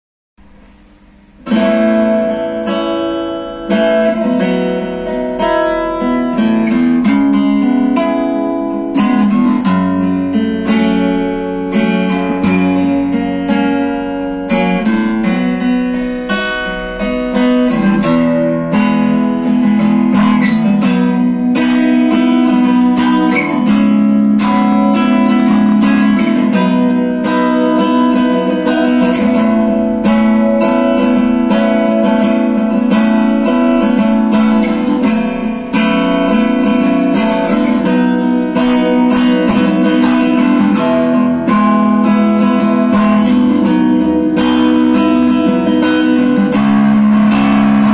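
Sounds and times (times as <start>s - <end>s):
acoustic guitar strumming and picking: 0.4s - 47.9s.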